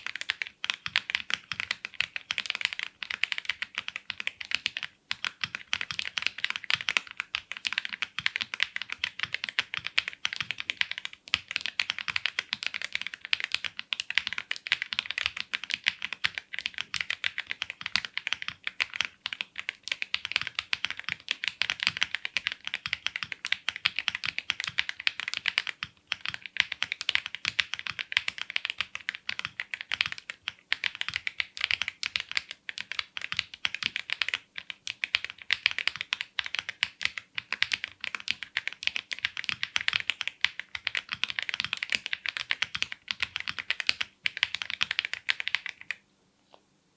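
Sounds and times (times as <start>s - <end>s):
fast mechanical keyboard typing: 0.0s - 46.0s.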